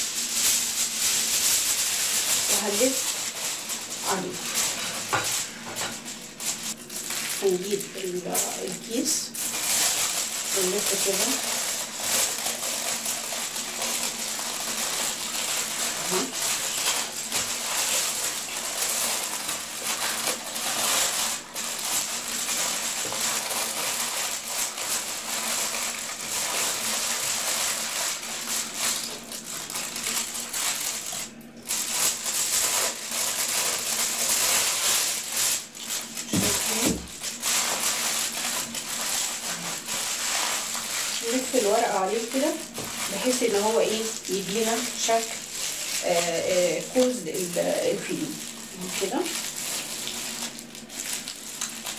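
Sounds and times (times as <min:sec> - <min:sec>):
aluminium foil crinkling: 0:00.0 - 0:51.9.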